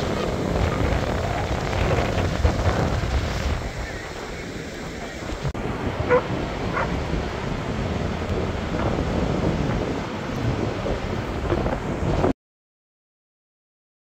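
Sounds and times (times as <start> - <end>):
breaking surf: 0.0 - 12.3
wind buffeting microphone: 0.0 - 12.3.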